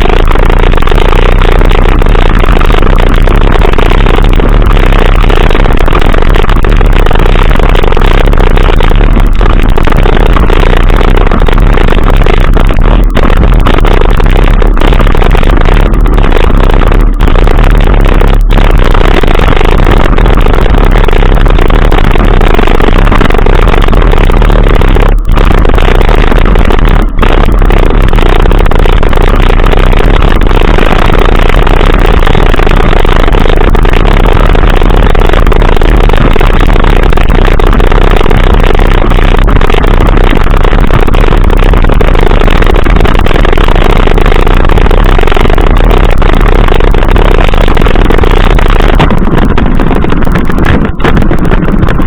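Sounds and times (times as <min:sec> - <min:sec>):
rumbling wind and road noise: 0:00.0 - 0:52.0
steady low drone: 0:00.0 - 0:52.0.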